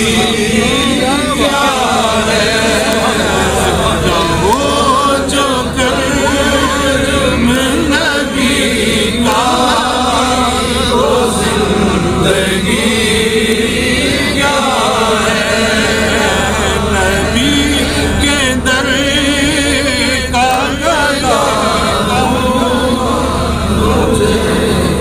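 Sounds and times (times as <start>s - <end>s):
man chanting devotional poem: 0.0s - 25.0s
steady low hum: 0.0s - 25.0s.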